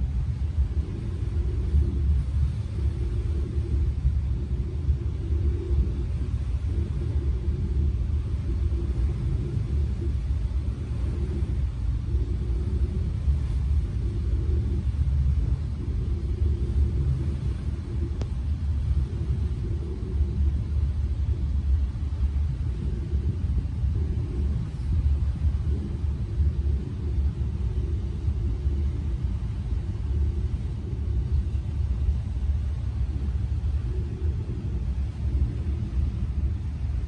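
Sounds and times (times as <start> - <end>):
boat engine and hull noise: 0.0 - 37.0
wind buffeting microphone: 0.0 - 37.0.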